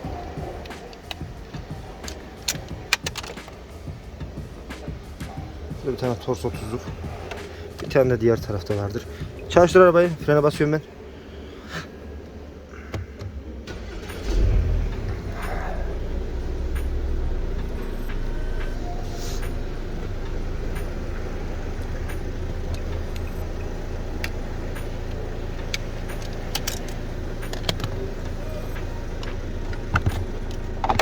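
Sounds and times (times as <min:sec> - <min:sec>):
car engine starting and idling: 0:00.0 - 0:31.0.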